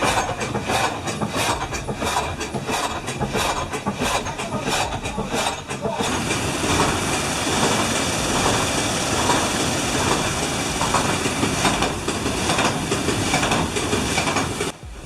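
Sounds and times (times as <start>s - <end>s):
saw mechanism knocking: 0.0s - 15.0s
water and machinery noise: 0.0s - 15.0s.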